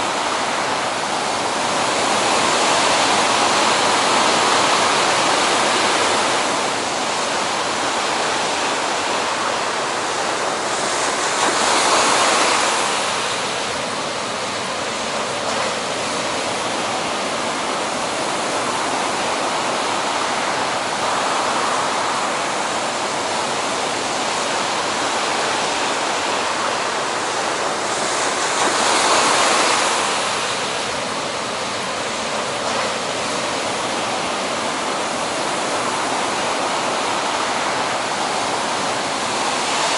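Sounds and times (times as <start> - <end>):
heavy ocean surf breaking: 0.0 - 39.9.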